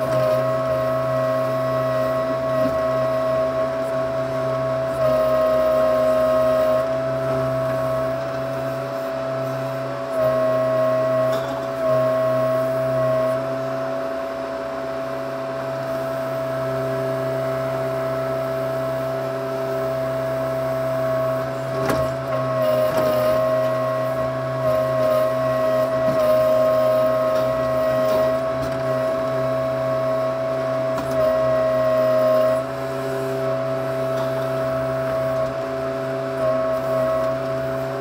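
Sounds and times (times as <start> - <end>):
backhoe engine running: 0.0 - 38.0.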